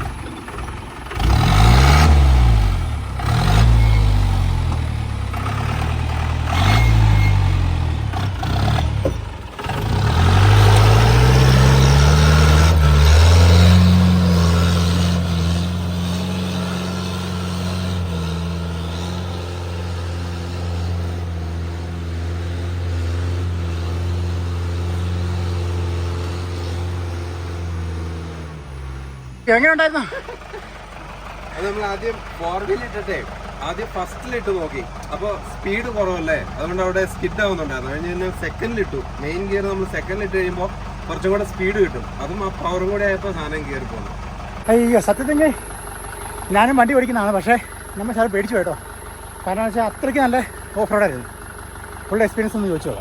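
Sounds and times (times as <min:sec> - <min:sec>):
jeep engine revving: 0:00.0 - 0:53.0.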